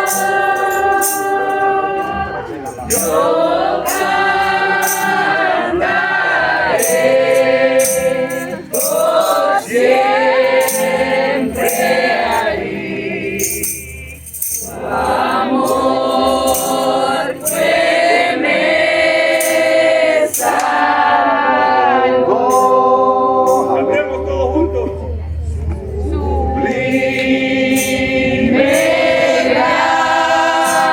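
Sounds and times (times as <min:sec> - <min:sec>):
congregation singing a hymn: 0:00.0 - 0:30.9.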